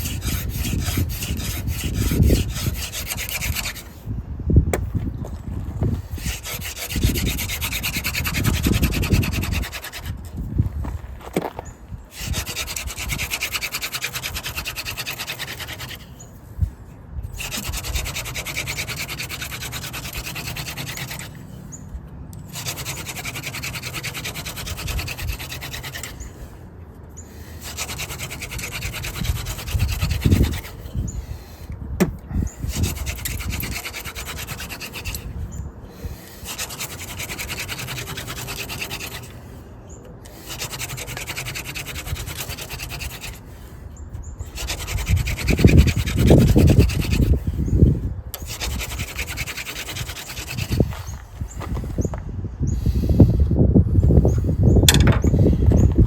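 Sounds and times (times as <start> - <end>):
wood rubbing on wood: 0.0 - 4.1, 4.7 - 51.9, 54.2 - 56.0.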